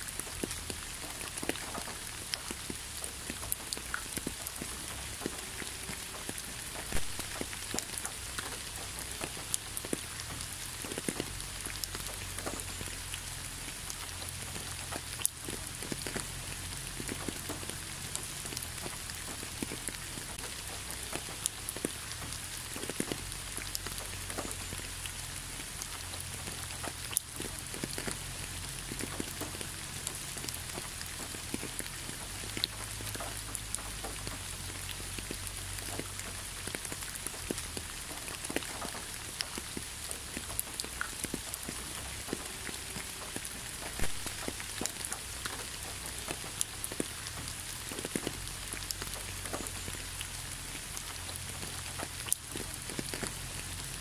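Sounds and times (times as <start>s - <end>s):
individual raindrop hits: 0.0s - 54.0s
steady rain hiss: 0.0s - 54.0s.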